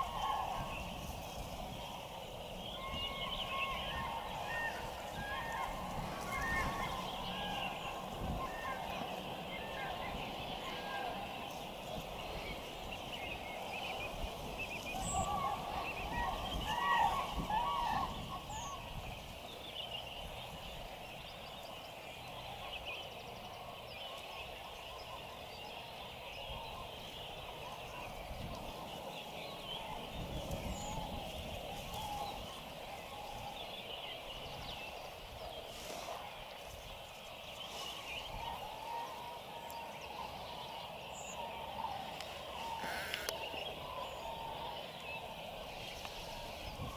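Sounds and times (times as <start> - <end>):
chorus of animal calls: 0.0 - 19.1, 22.3 - 46.9.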